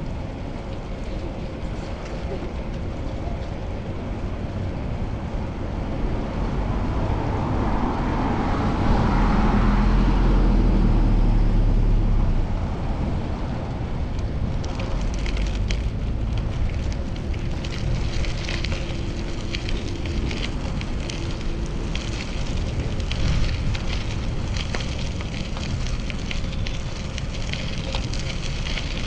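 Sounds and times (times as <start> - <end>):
crackling noise: 0.0 - 29.0
street traffic: 0.0 - 29.0
vehicle passing: 3.6 - 29.0.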